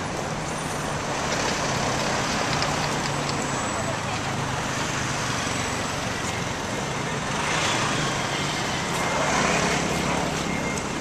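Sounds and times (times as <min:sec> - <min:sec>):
traffic hum: 0:00.0 - 0:11.0
vehicles passing: 0:00.0 - 0:11.0.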